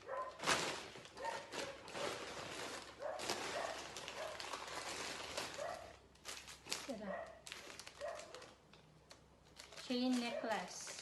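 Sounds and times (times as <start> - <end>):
plastic packaging rustling: 0.0 - 11.0.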